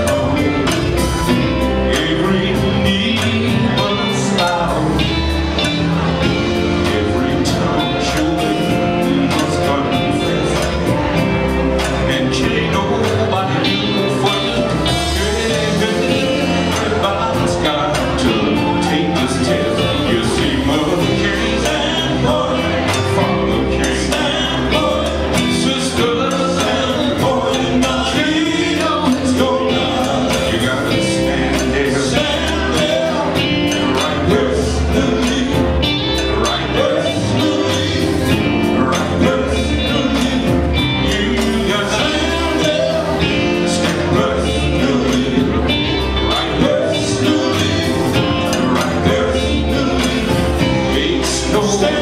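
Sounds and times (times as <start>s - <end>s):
drum kit: 0.0s - 52.0s
electric bass: 0.0s - 52.0s
electric guitar: 0.0s - 52.0s
keyboard: 0.0s - 52.0s
male group singing gospel: 0.0s - 52.0s.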